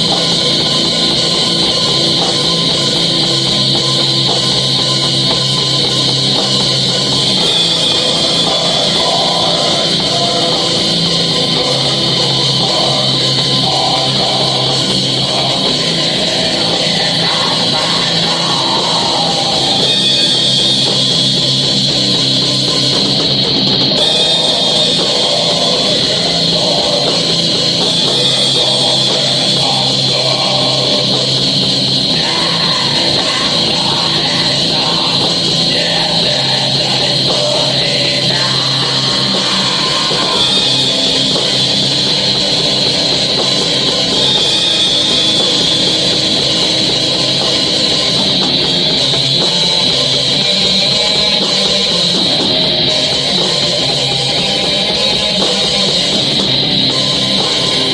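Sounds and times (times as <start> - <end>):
distorted electric guitars: 0.0 - 57.9
drum kit playing: 0.0 - 57.9.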